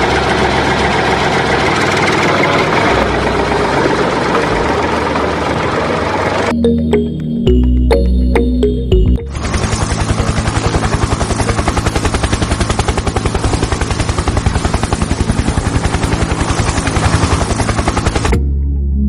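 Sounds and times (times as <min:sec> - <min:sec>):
helicopter rotor chopping: 0:00.0 - 0:06.5, 0:09.2 - 0:18.4.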